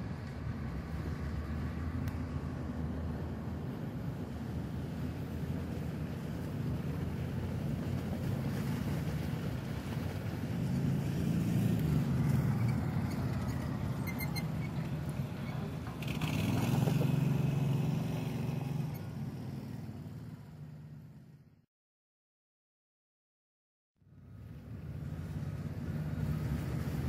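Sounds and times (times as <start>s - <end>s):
rumble of passing traffic: 0.0s - 21.7s, 24.0s - 27.0s.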